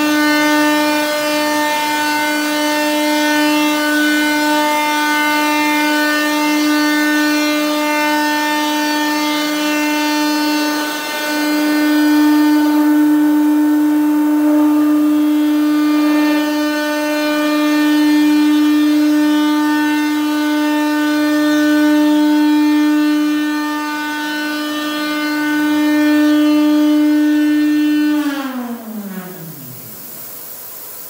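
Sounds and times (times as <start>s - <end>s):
router spindle whine: 0.0s - 30.7s.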